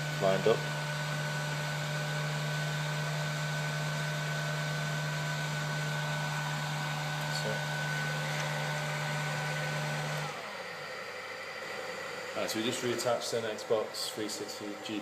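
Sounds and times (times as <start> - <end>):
hot-air heater blowing: 0.0 - 15.0.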